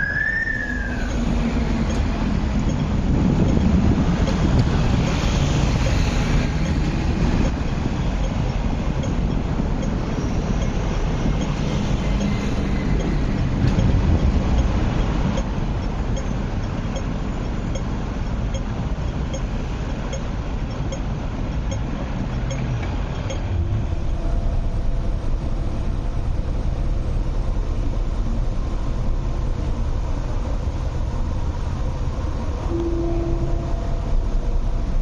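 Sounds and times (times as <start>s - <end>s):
faint steady tones: 0.0s - 35.0s
ride noise inside moving train: 0.0s - 35.0s
train rumbling on track: 0.0s - 35.0s.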